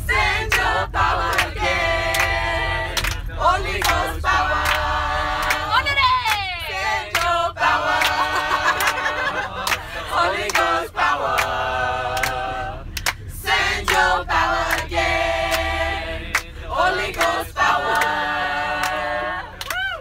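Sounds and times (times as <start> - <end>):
voices singing held notes: 0.0 - 19.8.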